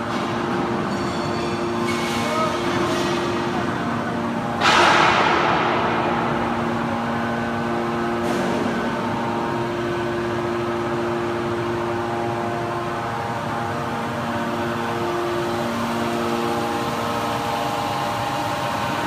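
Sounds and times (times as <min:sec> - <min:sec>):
baler machine hum: 0:00.0 - 0:19.0.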